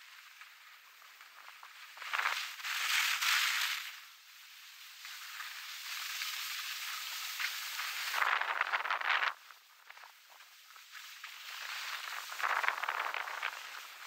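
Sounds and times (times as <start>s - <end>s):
ski edges scraping: 0.0s - 14.0s
skis hissing over snow: 0.0s - 14.0s.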